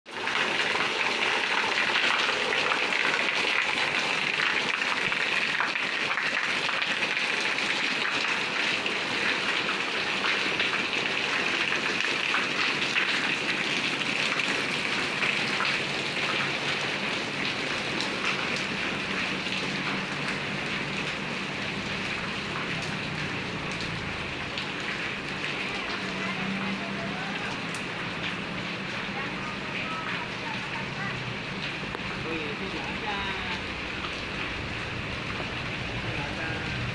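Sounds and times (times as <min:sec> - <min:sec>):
rain on pavement and roofs: 0:00.1 - 0:36.9.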